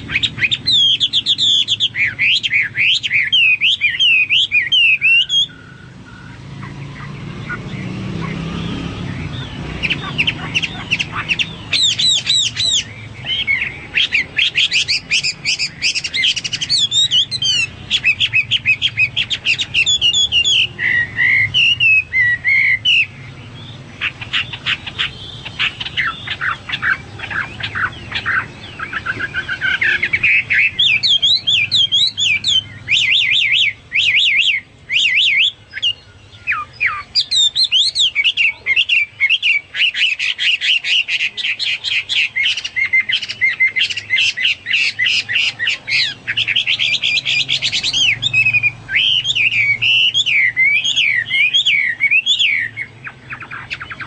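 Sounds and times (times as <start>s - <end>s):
bird singing trills and warbles: 0.0s - 54.0s.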